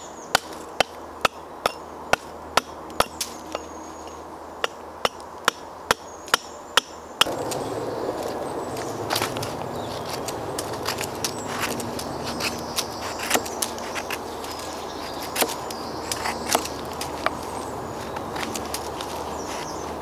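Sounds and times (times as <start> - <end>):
knife carving wood: 0.3 - 7.6, 10.0 - 20.0.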